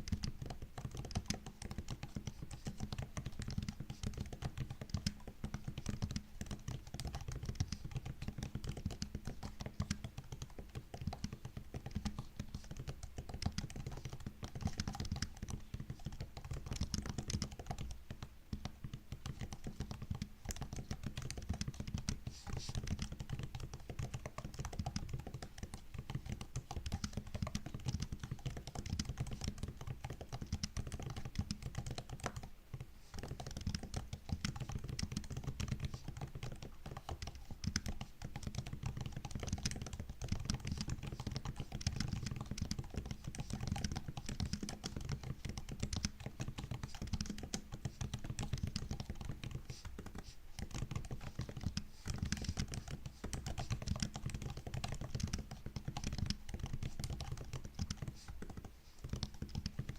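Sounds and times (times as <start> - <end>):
typing on laptop keyboard: 0.0 - 59.9.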